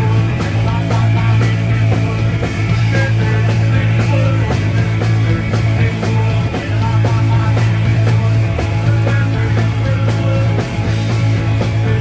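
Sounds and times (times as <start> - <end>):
distorted electric guitars: 0.0 - 12.0
heavy bass line: 0.0 - 12.0
steady drumbeat: 0.0 - 12.0.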